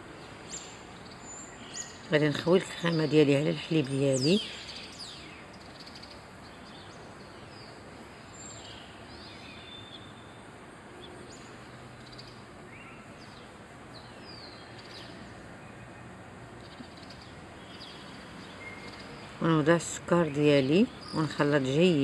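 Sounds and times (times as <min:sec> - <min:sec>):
steady background hiss: 0:00.0 - 0:22.0
small birds chirping: 0:00.2 - 0:22.0.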